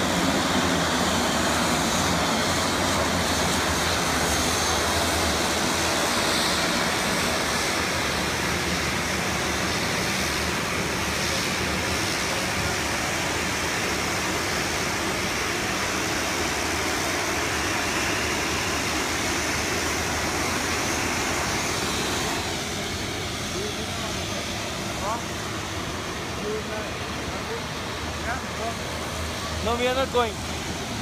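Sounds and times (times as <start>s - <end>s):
turboprop engines running: 0.0s - 31.0s.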